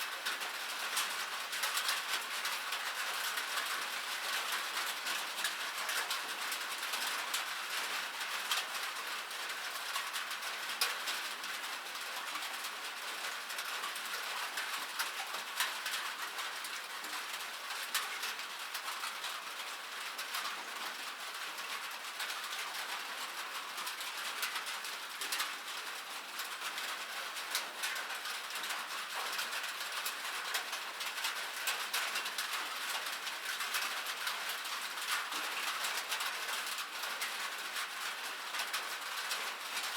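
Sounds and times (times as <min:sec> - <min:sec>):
rain on metal: 0:00.0 - 0:39.9.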